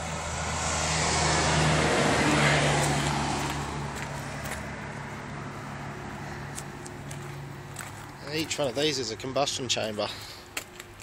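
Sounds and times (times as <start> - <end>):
low engine hum: 0.0 - 9.0
vehicle passing by: 0.0 - 9.3.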